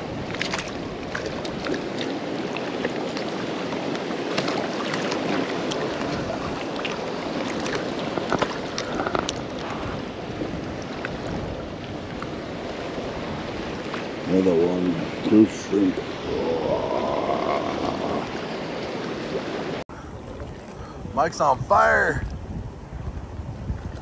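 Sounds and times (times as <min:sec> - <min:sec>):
water lapping against kayak: 0:00.0 - 0:24.0
wind buffeting microphone: 0:00.0 - 0:24.0.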